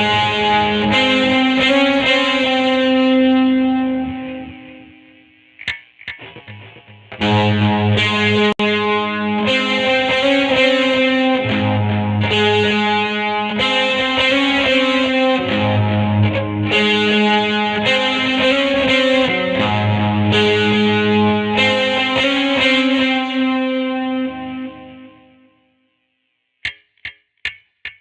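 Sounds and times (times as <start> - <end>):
distorted electric guitar chords: 0.0 - 25.6.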